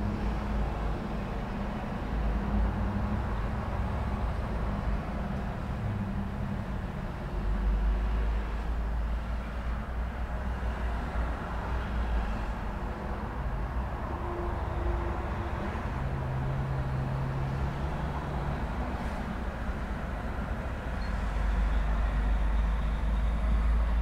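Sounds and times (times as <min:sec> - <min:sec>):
traffic rumble and tyre noise: 0:00.0 - 0:24.0.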